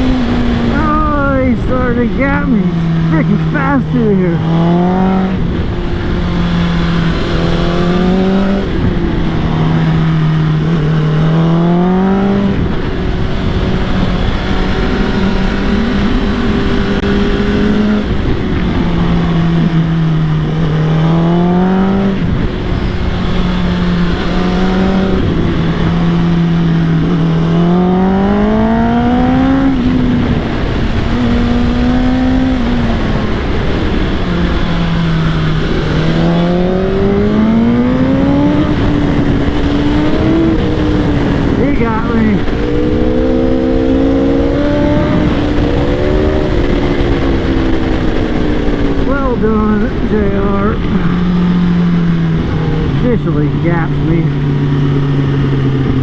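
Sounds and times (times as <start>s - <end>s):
continuous rush of noise: 0.0s - 56.0s
motorcycle engine revving: 0.0s - 56.0s.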